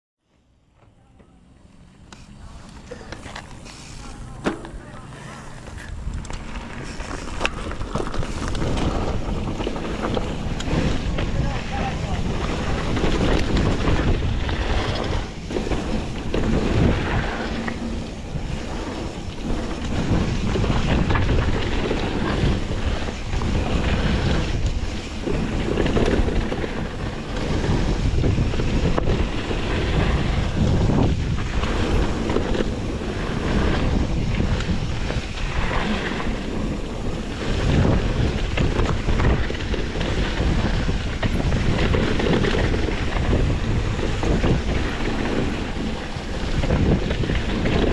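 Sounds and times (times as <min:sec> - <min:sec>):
wind buffeting microphone: 0:02.2 - 0:47.9.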